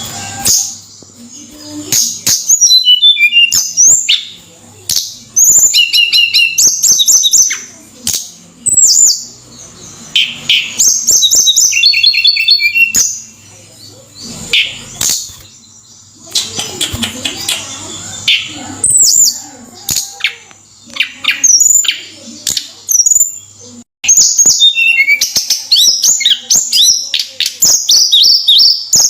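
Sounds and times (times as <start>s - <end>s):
songbird singing whistled notes: 0.1s - 13.6s, 14.2s - 29.0s.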